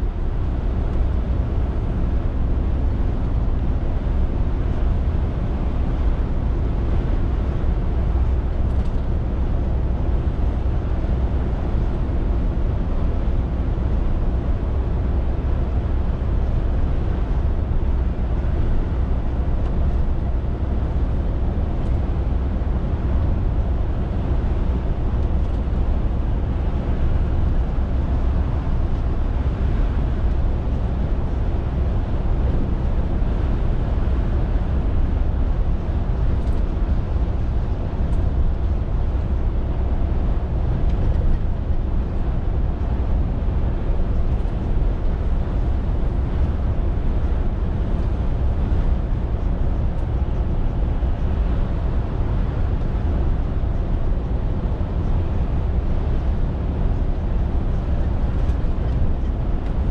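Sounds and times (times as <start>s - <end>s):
lorry diesel engine drone: 0.0s - 59.9s
road noise: 0.0s - 59.9s.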